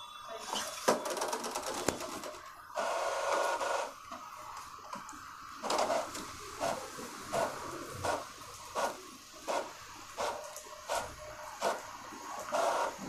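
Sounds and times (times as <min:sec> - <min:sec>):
printer motor whirring: 0:00.5 - 0:13.0.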